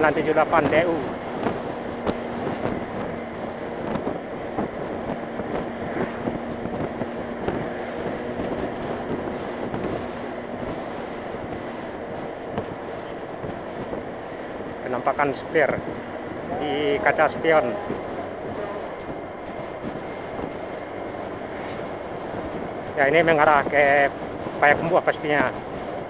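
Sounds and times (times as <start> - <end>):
motorcycle engine: 0.0 - 24.4
road noise: 0.0 - 26.0
wind rushing over microphone: 0.0 - 26.0.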